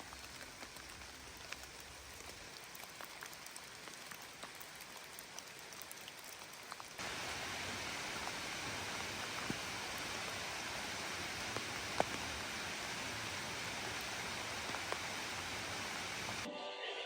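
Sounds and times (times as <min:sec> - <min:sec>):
close raindrops striking: 0:00.0 - 0:16.5
steady rain falling: 0:00.0 - 0:16.5.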